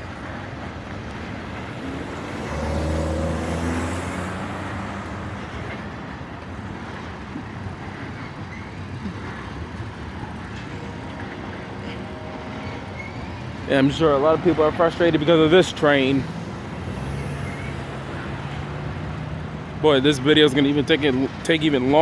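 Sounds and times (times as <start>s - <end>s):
low engine hum: 0.0s - 22.0s
train wheels rumbling on rails: 0.0s - 22.0s.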